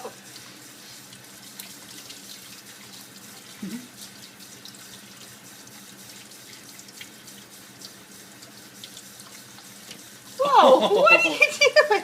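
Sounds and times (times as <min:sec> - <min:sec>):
tap water running into sink: 0:00.0 - 0:11.9.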